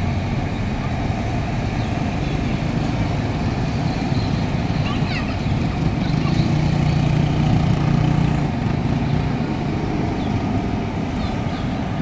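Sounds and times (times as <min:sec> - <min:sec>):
engine hum: 0:00.0 - 0:12.0
traffic noise: 0:00.0 - 0:12.0
vehicle engines running: 0:00.0 - 0:12.0.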